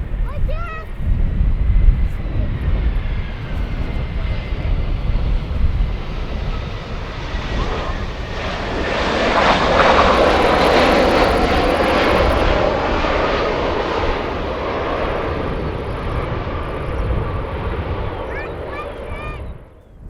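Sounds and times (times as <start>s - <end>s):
faint engine whine: 0.0s - 20.0s
jet airliner passing: 0.0s - 20.0s.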